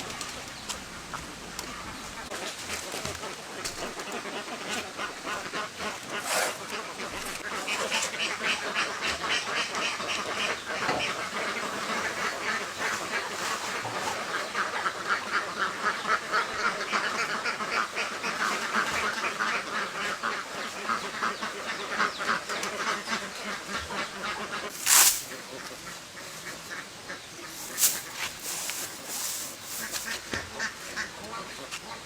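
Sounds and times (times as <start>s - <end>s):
ducks quacking: 1.2s - 32.0s.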